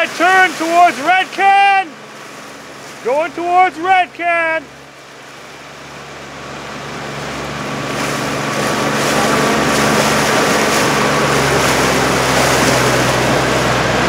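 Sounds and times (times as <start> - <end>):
motorboat engine humming: 0.0 - 14.0
water rushing: 0.0 - 14.0.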